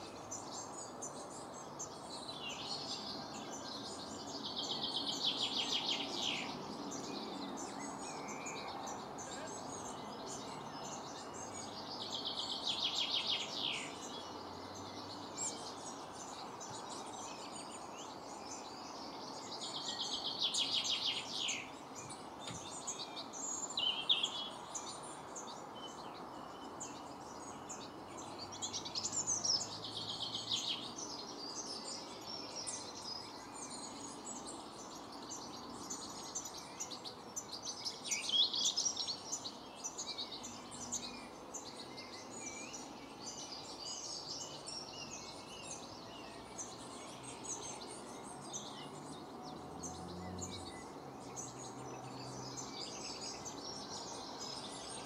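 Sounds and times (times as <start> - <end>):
birds chirping: 0.0 - 55.0
songbird singing: 0.0 - 55.0.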